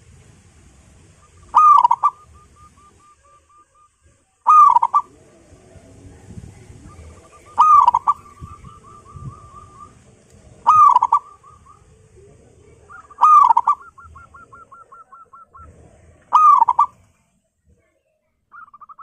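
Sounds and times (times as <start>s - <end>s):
dove cooing: 1.0s - 17.1s, 18.5s - 19.0s.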